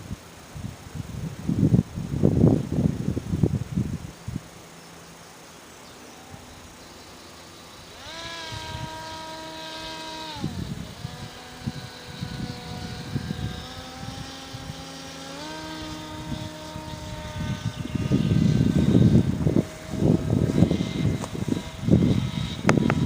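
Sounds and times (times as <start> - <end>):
low gusty noise: 0.0 - 23.0
propeller airplane motor whine: 1.1 - 23.0.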